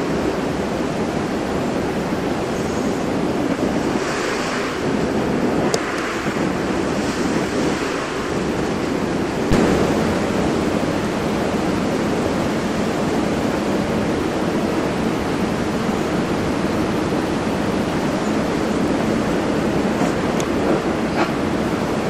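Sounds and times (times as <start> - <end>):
steady rushing noise: 2.3 - 22.0.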